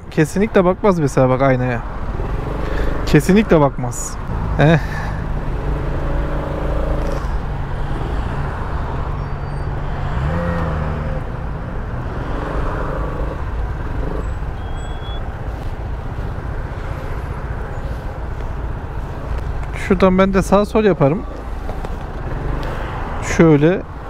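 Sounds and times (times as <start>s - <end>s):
hum of traffic: 0.0s - 24.0s.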